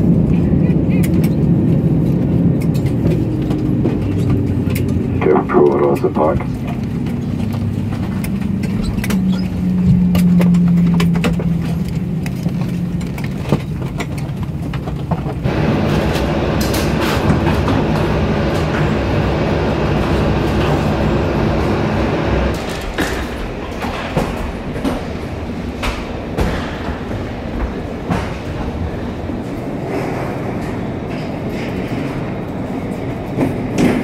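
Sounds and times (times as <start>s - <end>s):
aircraft cabin engine hum: 0.0s - 34.0s.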